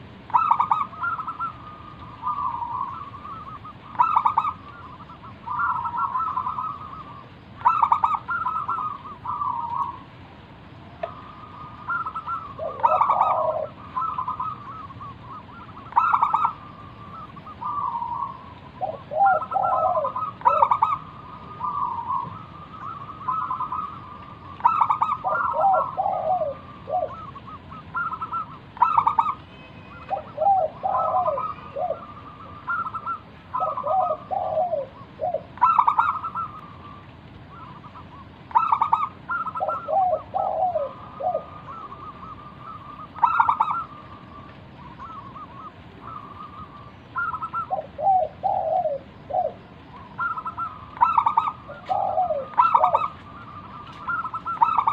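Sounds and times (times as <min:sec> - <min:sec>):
dove cooing: 0:00.0 - 0:10.2, 0:10.9 - 0:54.9.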